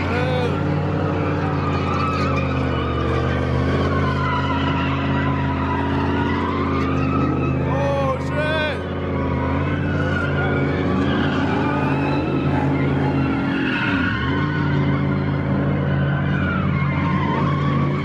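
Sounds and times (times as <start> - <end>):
car engine revving high: 0.0 - 18.0
tyres skidding on pavement: 0.0 - 18.0.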